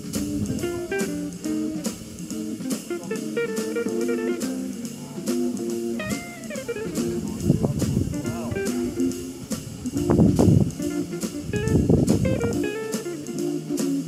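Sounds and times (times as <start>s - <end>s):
bluesy guitar with drum beat: 0.0s - 14.0s.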